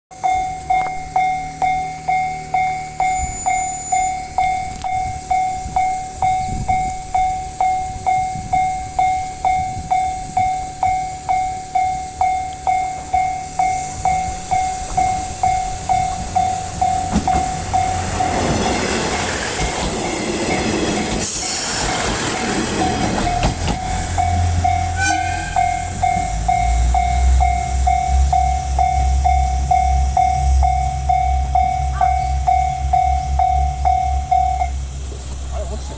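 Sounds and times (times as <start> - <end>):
diesel railcar passing: 0.1 - 35.9
level-crossing warning bell: 0.1 - 35.9.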